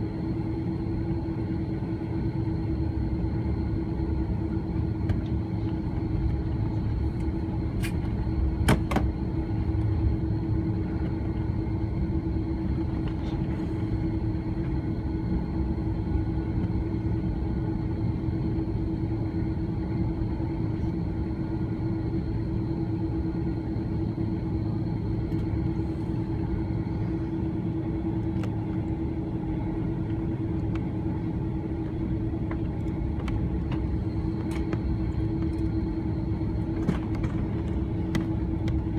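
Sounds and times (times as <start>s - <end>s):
aircraft cabin rumble and hum: 0.0s - 38.9s.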